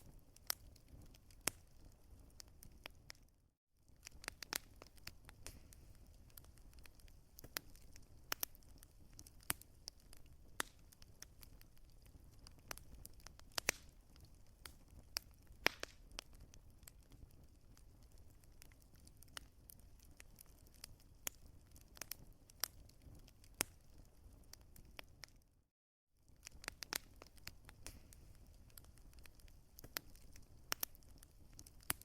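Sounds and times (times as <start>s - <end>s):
wood fire crackling and popping: 0.0s - 25.6s, 26.2s - 32.0s.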